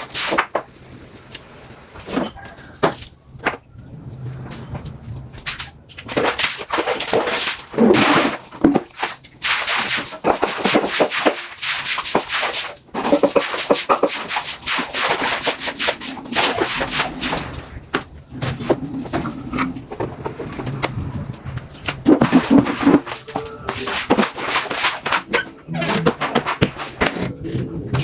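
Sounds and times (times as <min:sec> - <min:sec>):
brush scrubbing a surface: 0:03.9 - 0:28.0.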